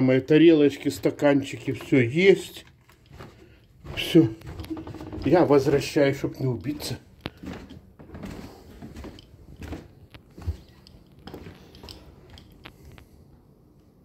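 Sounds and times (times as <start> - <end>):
footsteps on stairs and wooden floor: 0.8 - 13.0.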